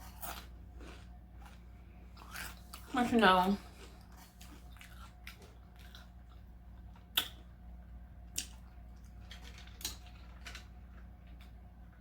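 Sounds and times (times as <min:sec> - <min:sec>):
chewing with wet smacks: 0:00.0 - 0:07.5, 0:08.3 - 0:11.5.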